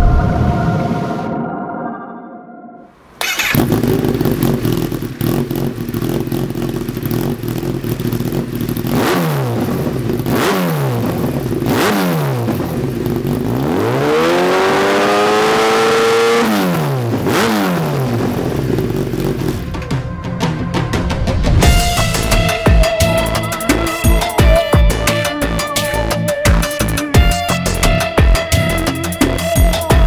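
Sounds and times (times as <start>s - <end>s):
motorcycle engine idling and revving: 3.2s - 30.0s.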